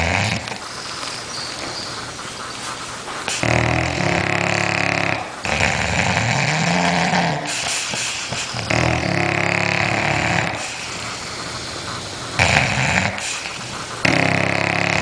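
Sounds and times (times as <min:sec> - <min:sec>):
dog snoring: 0:00.0 - 0:00.7, 0:03.2 - 0:15.0.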